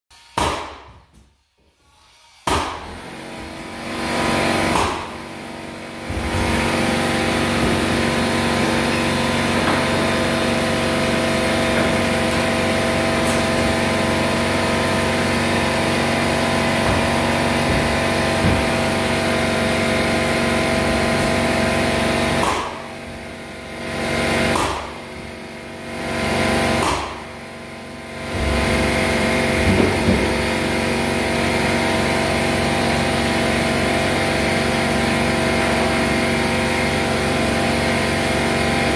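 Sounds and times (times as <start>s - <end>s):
air compressor motor hum: 1.5s - 38.9s.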